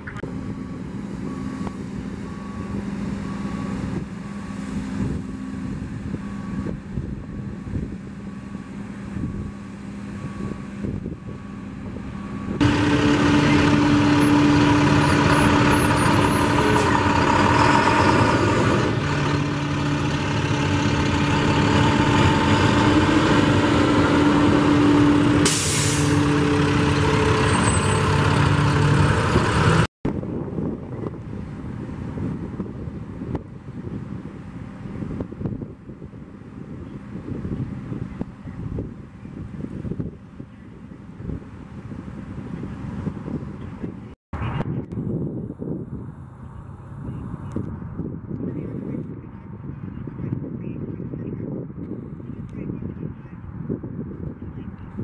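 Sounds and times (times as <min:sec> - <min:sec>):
heavy truck engines running: 0:00.0 - 0:51.2.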